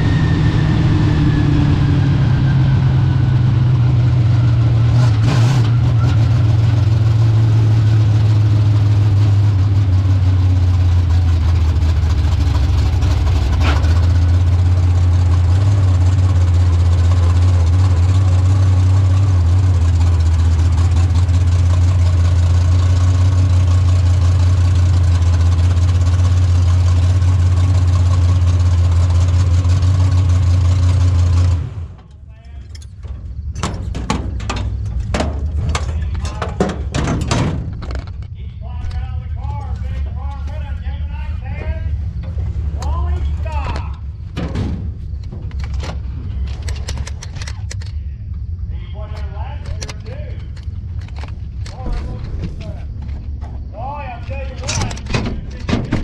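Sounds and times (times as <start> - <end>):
race car engine slowing to idle: 0.0 - 56.0.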